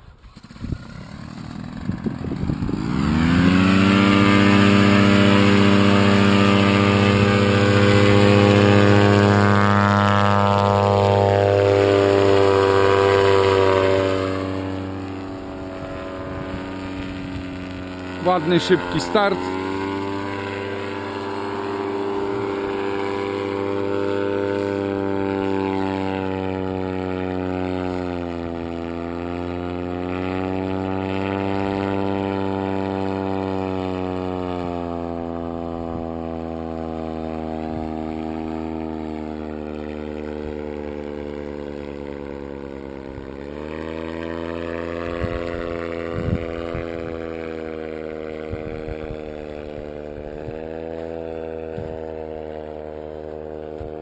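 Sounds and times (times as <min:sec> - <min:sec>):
paramotor engine droning overhead: 0:00.0 - 0:54.0.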